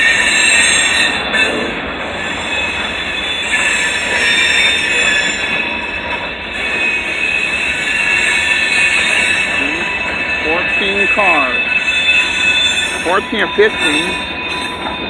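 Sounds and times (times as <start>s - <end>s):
train wheels squealing: 0.0s - 15.0s.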